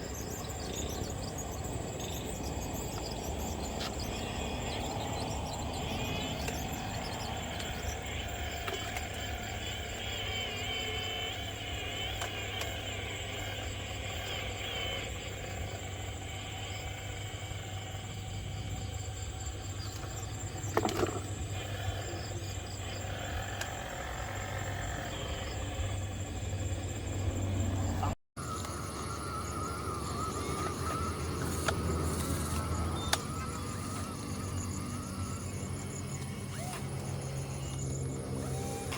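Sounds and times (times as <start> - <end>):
model truck motors whining: 0.0 - 38.9
steady low hum: 0.0 - 38.9.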